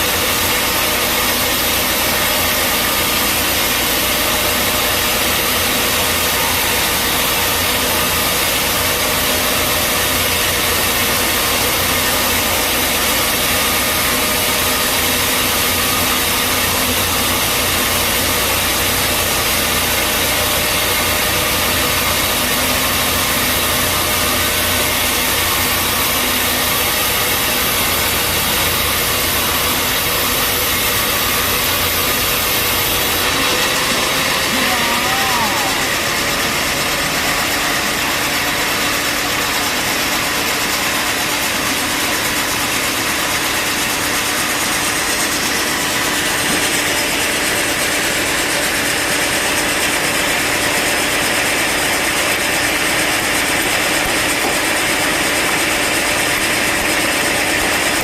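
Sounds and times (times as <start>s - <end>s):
bandsaw running: 0.0s - 58.0s.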